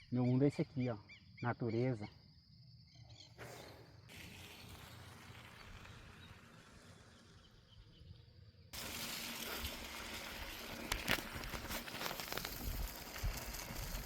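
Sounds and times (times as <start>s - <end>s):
faint outdoor nature ambience: 0.0s - 14.0s.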